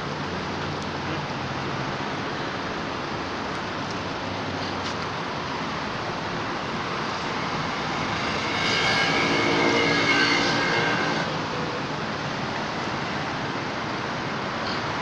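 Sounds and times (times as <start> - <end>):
outdoor background hiss and rumble: 0.0 - 15.0.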